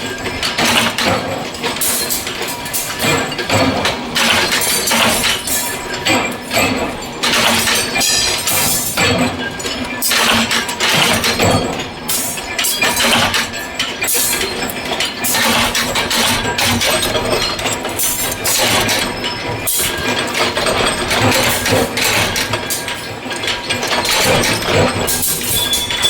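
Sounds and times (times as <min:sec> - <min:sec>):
metal parts clanking: 0:00.2 - 0:26.0.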